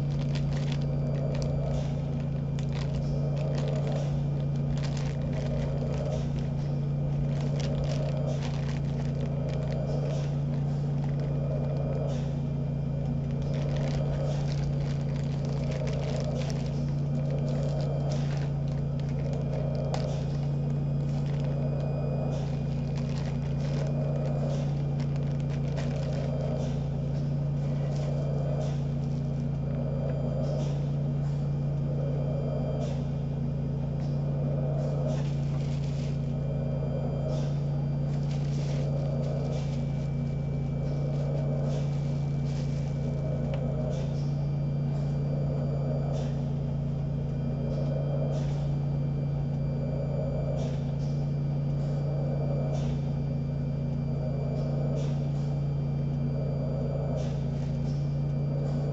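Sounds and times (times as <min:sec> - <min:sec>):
steady low hum: 0:00.0 - 0:58.9
ventilator rhythmic whoosh: 0:00.0 - 0:58.9.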